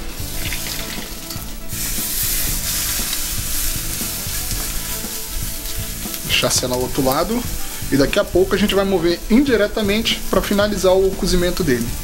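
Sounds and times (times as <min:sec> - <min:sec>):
steak sizzling on grill: 0:00.0 - 0:12.0.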